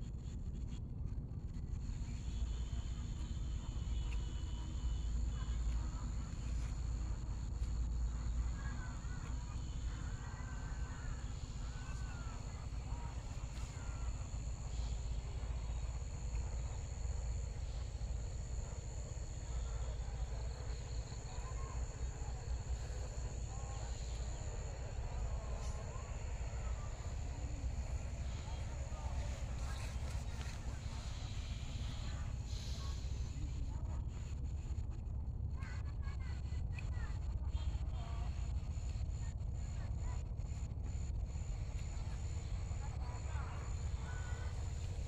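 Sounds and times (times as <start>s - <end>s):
low rumble: 0.0s - 45.0s
faint distant voices: 1.6s - 45.0s
insects trilling: 2.0s - 33.8s, 35.4s - 45.0s.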